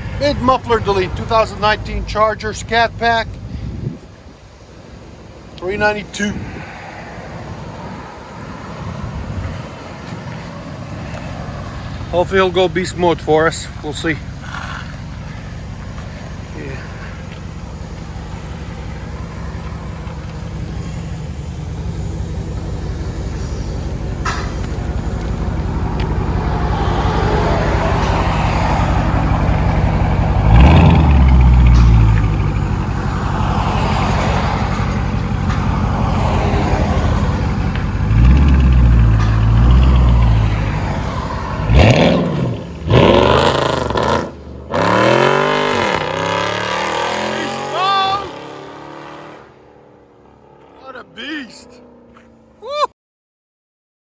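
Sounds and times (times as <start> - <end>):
car engine deep rumble: 0.0 - 52.7.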